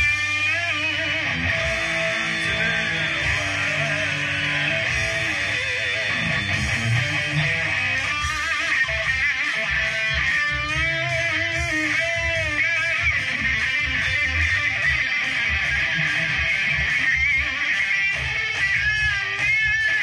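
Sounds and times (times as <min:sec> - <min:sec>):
loud electric guitar: 0:00.0 - 0:20.0.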